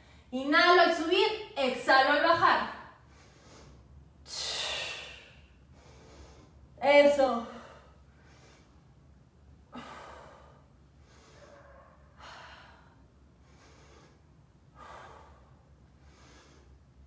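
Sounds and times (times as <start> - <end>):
woman breathing: 0.0 - 0.3, 2.9 - 6.8, 7.4 - 17.0.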